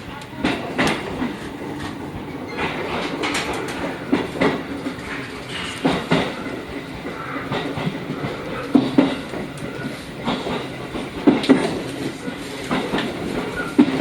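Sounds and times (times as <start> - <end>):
train running noise: 0.0 - 14.0
train wheels clicking over rail joints: 0.0 - 14.0.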